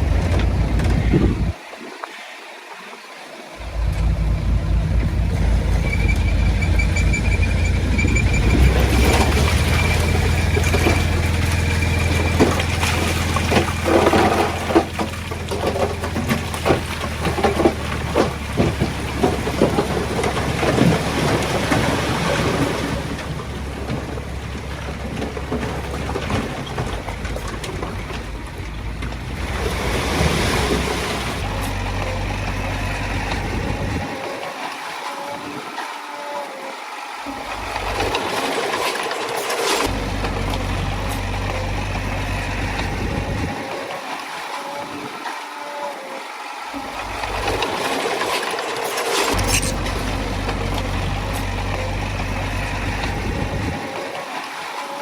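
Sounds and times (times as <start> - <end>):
bulldozer diesel engine: 0.0 - 1.6, 3.6 - 34.6, 37.2 - 45.1, 46.7 - 54.6.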